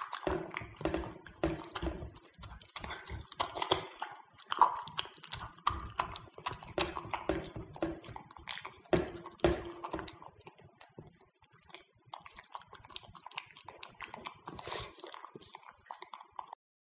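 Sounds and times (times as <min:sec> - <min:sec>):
dog chewing and licking: 0:00.0 - 0:16.6.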